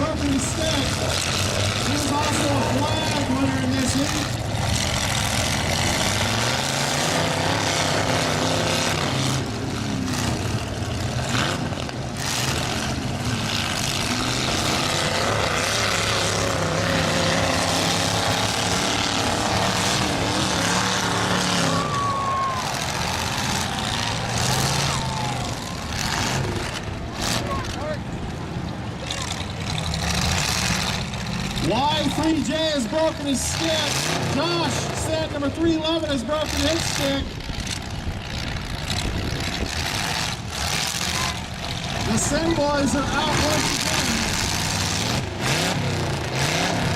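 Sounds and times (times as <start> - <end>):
truck engines revving: 0.0 - 46.9.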